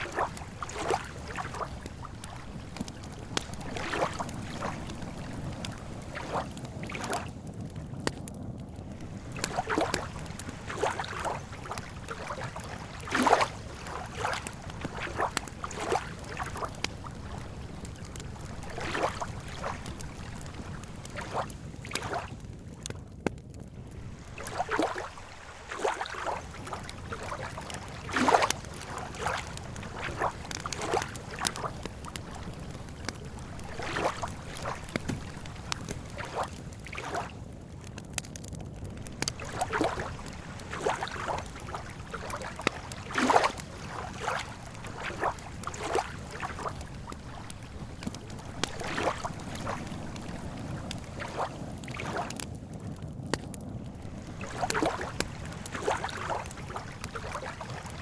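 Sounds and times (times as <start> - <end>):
water lapping at shore: 0.0 - 23.0, 23.7 - 58.0.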